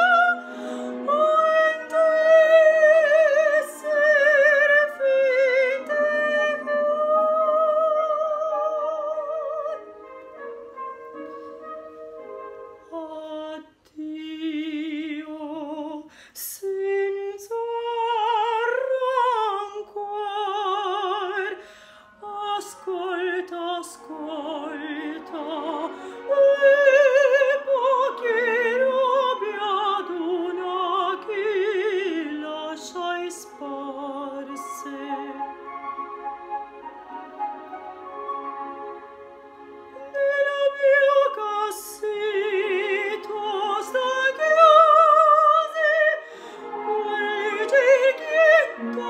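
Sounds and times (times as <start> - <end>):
woman singing opera: 0.0 - 10.4, 11.2 - 35.8, 39.9 - 49.0.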